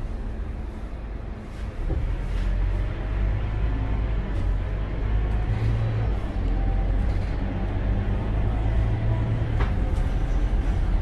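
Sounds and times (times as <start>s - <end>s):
bus diesel engine drone: 0.0s - 11.0s
road noise: 0.0s - 11.0s.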